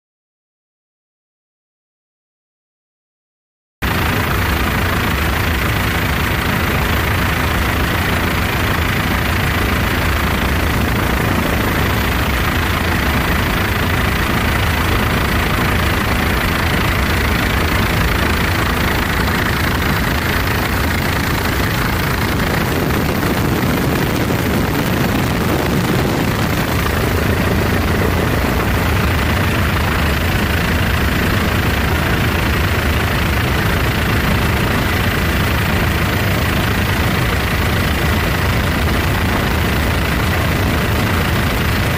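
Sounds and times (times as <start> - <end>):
helicopter engine and rotor drone: 3.8 - 41.9.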